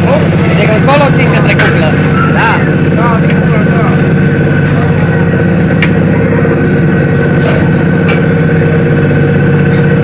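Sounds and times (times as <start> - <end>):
air compressor pulsing: 0.0 - 10.0
steady whine: 0.0 - 10.0.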